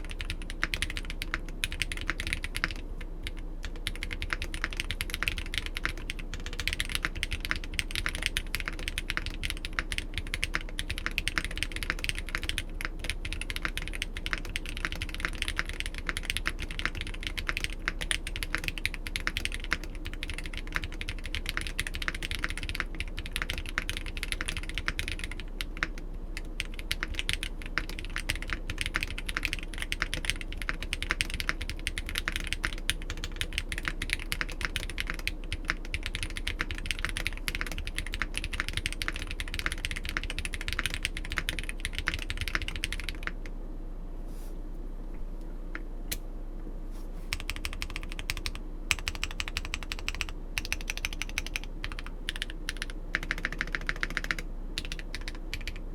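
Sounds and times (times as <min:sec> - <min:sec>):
mechanical keyboard typing: 0:00.0 - 0:43.4, 0:47.3 - 0:55.8.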